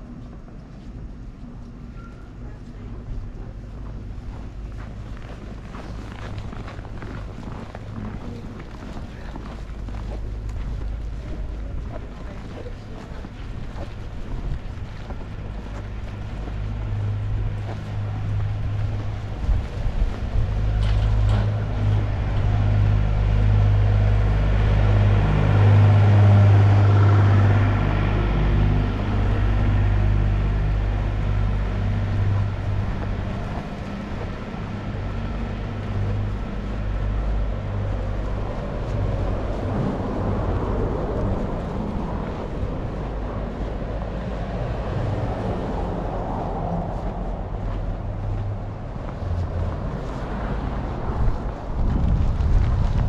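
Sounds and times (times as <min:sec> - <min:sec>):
car driving on snowy street: 0:00.0 - 0:53.0
wind on microphone: 0:03.2 - 0:28.2, 0:29.0 - 0:53.0.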